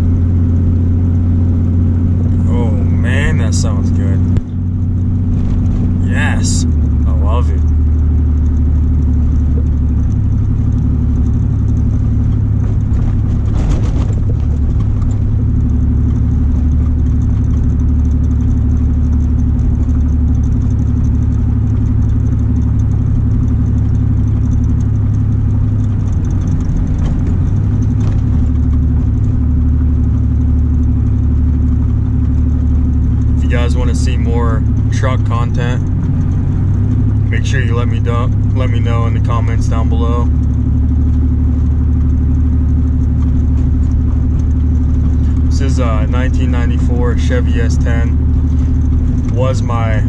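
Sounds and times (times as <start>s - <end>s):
loud low exhaust drone: 0.0s - 50.0s.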